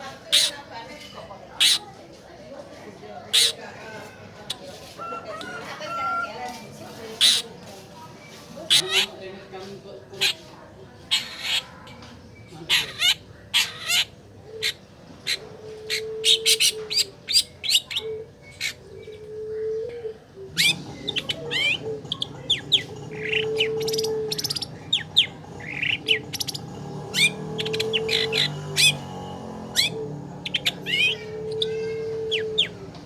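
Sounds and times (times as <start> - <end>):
bird chirps and calls: 3.2 - 9.3, 10.1 - 33.0.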